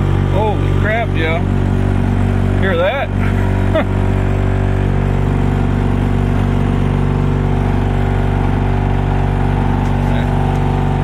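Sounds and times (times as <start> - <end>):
blower fan motor humming: 0.0 - 11.0.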